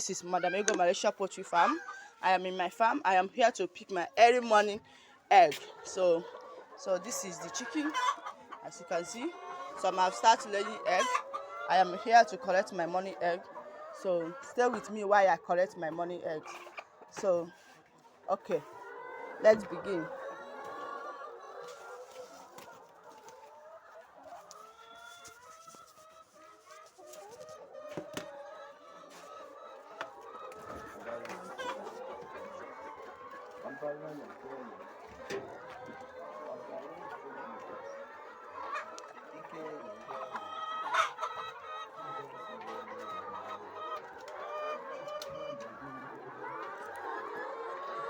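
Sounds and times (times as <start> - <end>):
hens clucking: 0.0 - 48.0.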